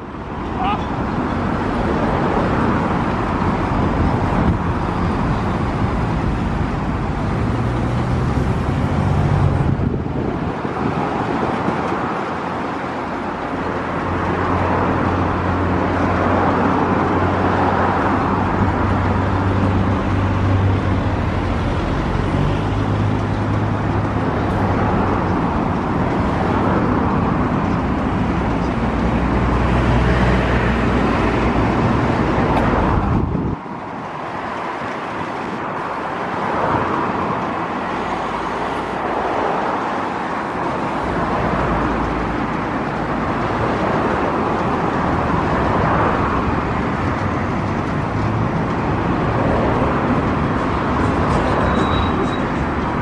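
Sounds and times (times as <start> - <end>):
motor and traffic noise: 0.0 - 53.0.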